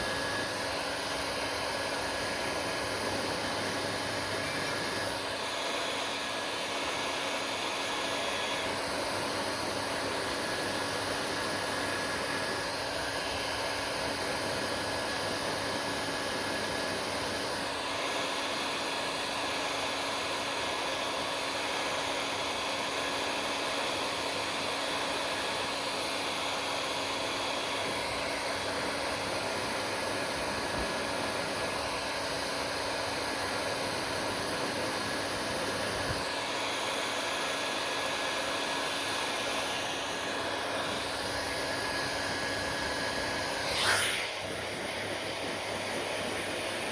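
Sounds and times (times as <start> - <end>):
hair dryer running: 0.0 - 46.9.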